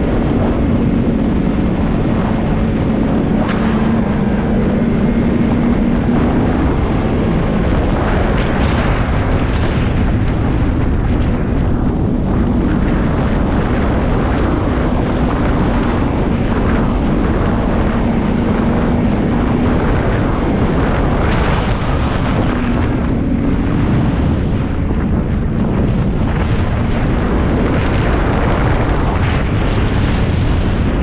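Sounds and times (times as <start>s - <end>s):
snowmobile engine running: 0.0s - 31.0s
wind rumble on microphone: 0.0s - 31.0s.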